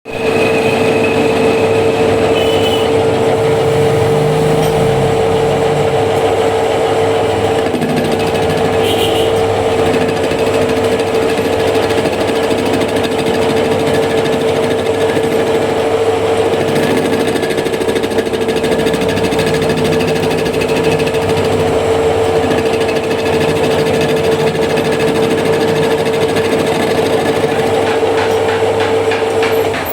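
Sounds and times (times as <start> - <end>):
metal lathe whining and clattering: 0.1 - 29.9.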